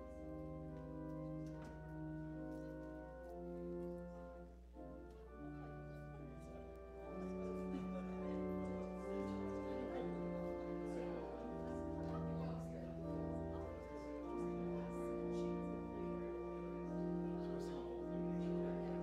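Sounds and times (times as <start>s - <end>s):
slow instrumental held chords: 0.0s - 19.0s.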